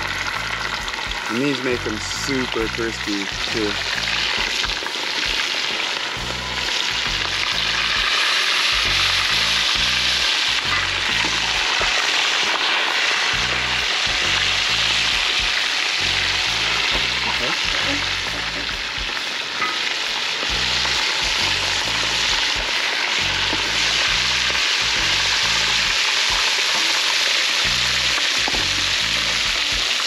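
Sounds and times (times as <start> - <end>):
background music with bass beat: 0.0 - 5.5, 6.1 - 26.6, 27.6 - 30.0
fish sizzling in hot oil: 0.0 - 30.0.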